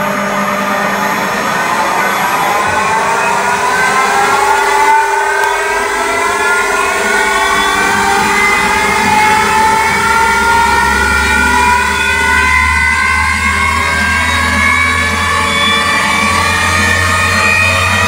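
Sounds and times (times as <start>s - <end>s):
low machine hum: 0.0s - 18.0s
machine motors whining: 0.0s - 18.0s.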